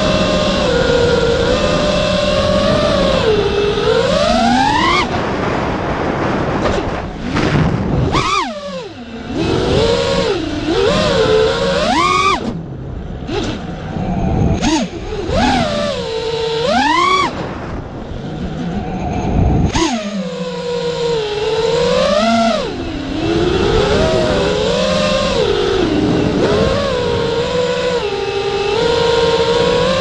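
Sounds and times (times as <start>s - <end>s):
rc car motor whining: 0.0s - 5.2s, 8.0s - 12.6s, 13.2s - 14.0s, 14.6s - 17.4s, 18.0s - 30.0s
gritty rolling noise: 0.0s - 30.0s.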